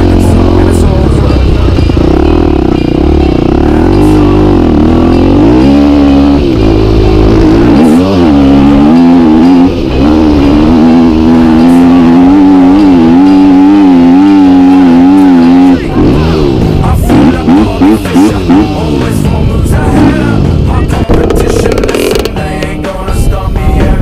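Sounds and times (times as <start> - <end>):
dirt bike engine revving: 0.0 - 23.1.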